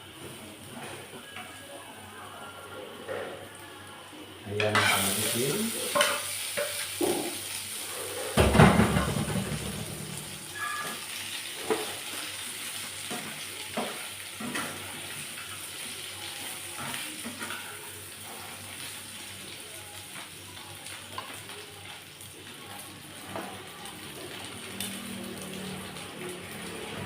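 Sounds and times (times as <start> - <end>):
garlic sizzling in oil: 4.6 - 27.0.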